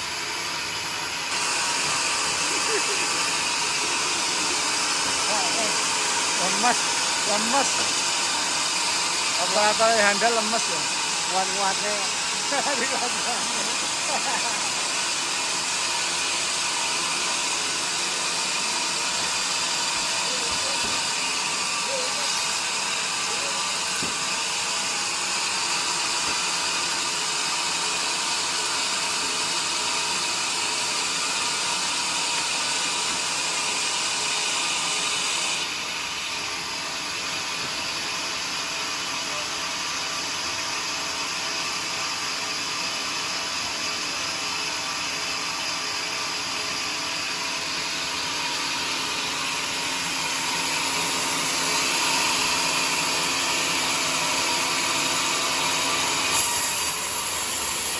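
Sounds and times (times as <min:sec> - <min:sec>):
saw cutting through log: 0:00.0 - 0:57.9.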